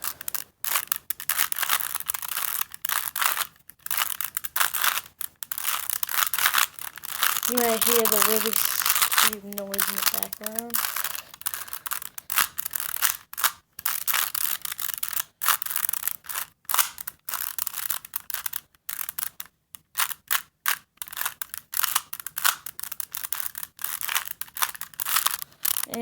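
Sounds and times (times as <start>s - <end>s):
plastic puzzle cube clicking: 0.0s - 26.0s.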